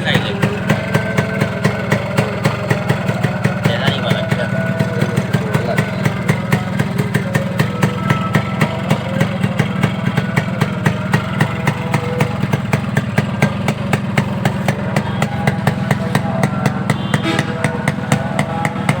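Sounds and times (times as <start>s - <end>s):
exhaust popping: 0.0s - 19.0s
two-stroke engine idling: 0.0s - 19.0s.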